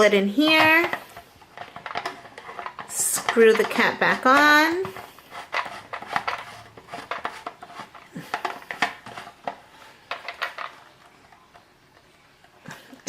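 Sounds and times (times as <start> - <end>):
plastic clicks and knocks: 0.6 - 12.1.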